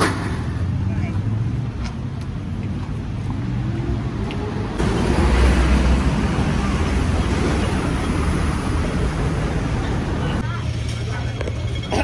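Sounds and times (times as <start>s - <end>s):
rumble of passing traffic: 0.0s - 12.0s.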